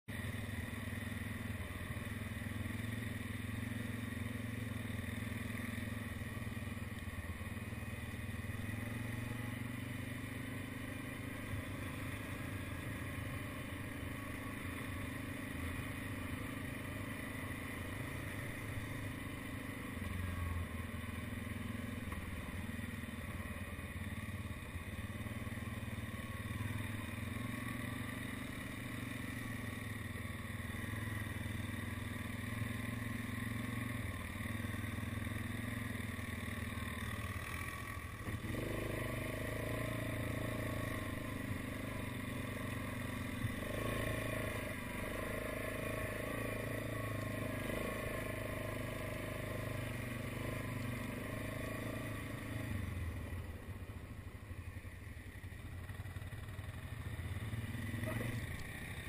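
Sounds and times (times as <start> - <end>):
atv engine running: 0.1 - 59.0.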